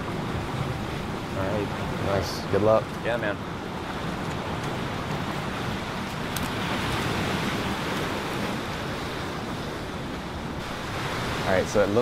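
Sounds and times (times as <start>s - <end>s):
surf breaking on rocky shore: 0.0s - 12.0s.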